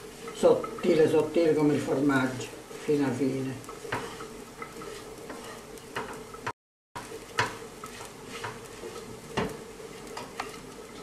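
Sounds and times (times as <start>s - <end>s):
wooden spoon scraping pan: 0.0s - 6.5s, 7.3s - 11.0s
low sizzle of frying: 0.0s - 11.0s.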